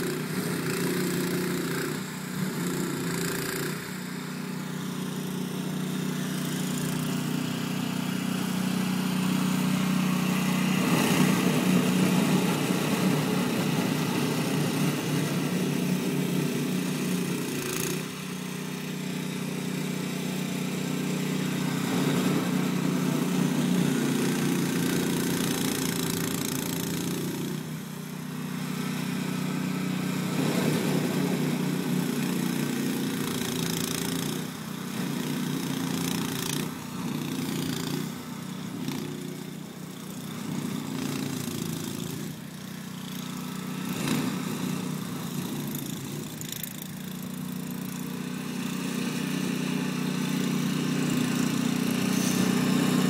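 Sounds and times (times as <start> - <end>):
snowblower running: 0.0 - 53.0.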